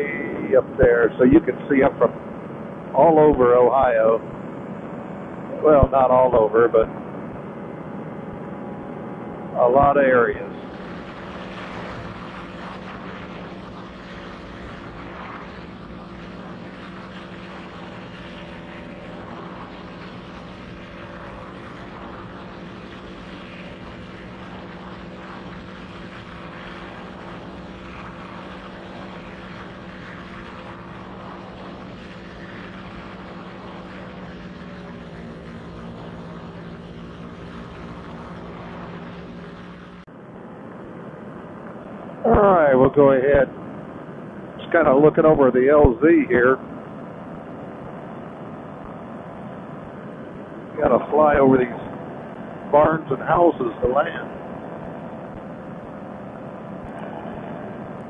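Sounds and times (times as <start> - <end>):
paramotor engine and propeller drone: 0.0 - 58.0.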